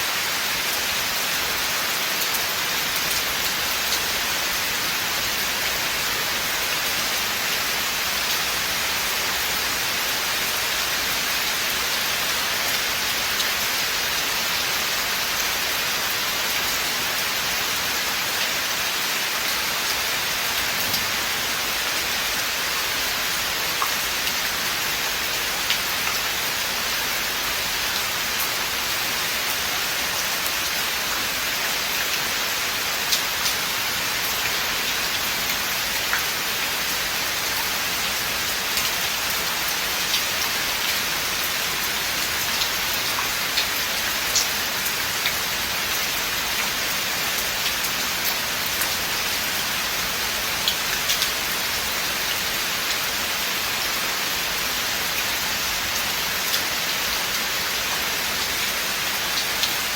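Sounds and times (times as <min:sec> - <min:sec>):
steady rain in a forest: 0:00.0 - 0:59.9.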